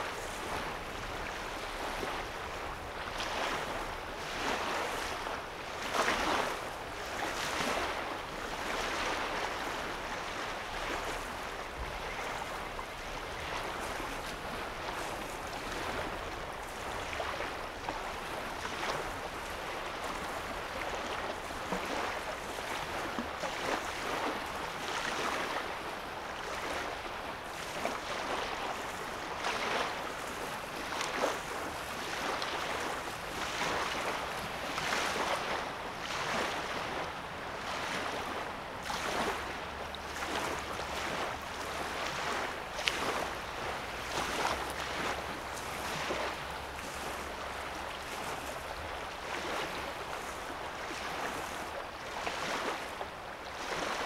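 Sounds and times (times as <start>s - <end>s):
wavelets lapping at shore: 0.0s - 54.0s.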